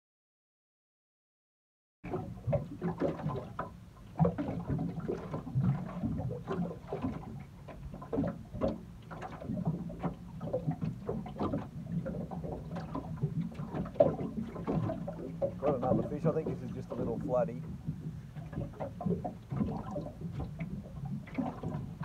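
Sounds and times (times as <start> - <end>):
water slapping against hull: 2.0 - 22.0.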